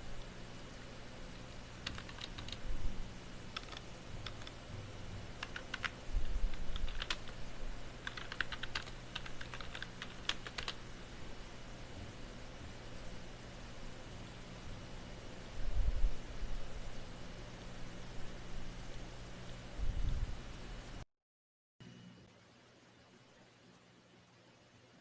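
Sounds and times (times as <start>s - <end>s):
faint hum: 0.0s - 21.0s, 21.8s - 25.0s.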